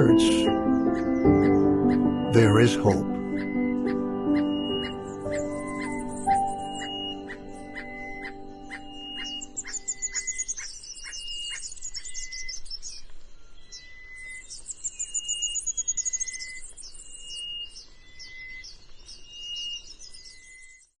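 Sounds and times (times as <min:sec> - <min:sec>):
songbirds chirping in high trills: 0:00.0 - 0:21.0.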